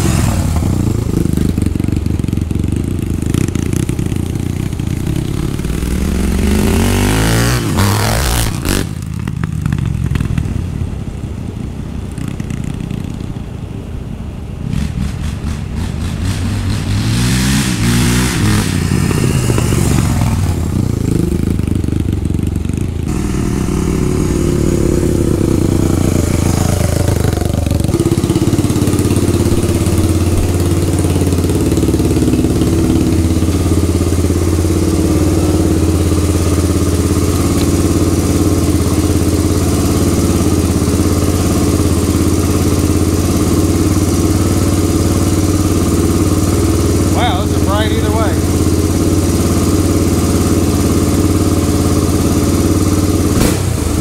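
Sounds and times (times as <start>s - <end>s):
three-wheeler engine running: 0.0s - 54.0s.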